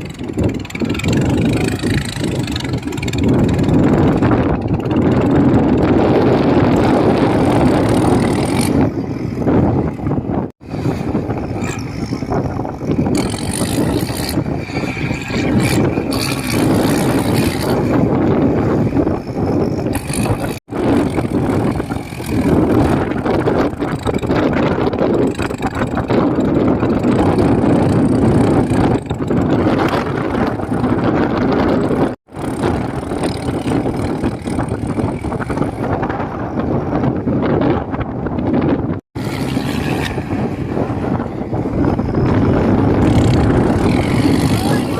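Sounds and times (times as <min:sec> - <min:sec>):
tractor diesel engine running hard: 0:00.0 - 0:44.9.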